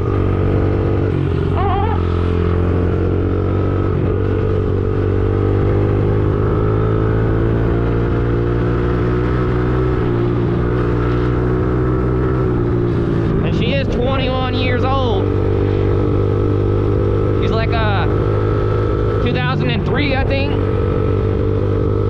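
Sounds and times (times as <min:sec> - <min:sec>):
dirtbike engine running: 0:00.0 - 0:22.0.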